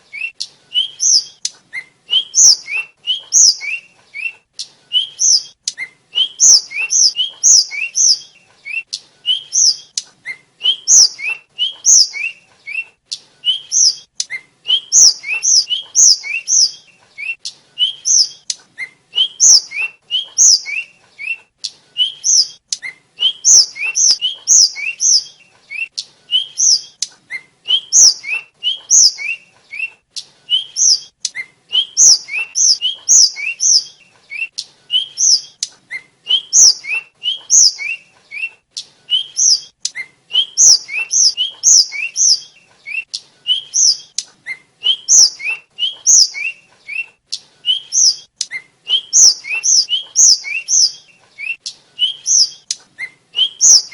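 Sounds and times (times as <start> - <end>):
flycatcher chattering song: 0.0 - 53.9.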